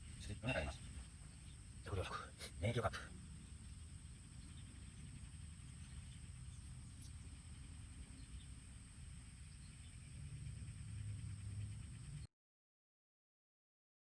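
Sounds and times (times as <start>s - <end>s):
high-pitched insect drone: 0.0s - 12.3s.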